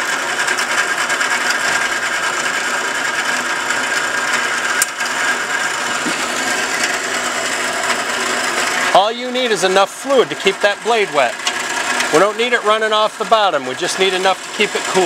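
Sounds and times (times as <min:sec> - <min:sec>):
band saw running: 0:00.0 - 0:15.0.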